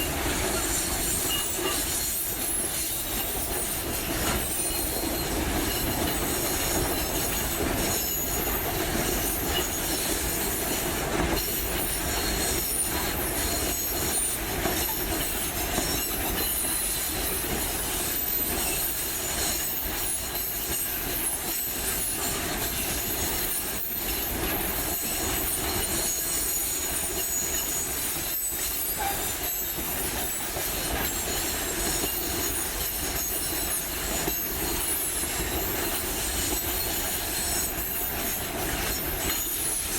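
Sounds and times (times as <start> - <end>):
rumble of train wagons: 0.0 - 39.9
train wheels squealing on rails: 0.0 - 39.9.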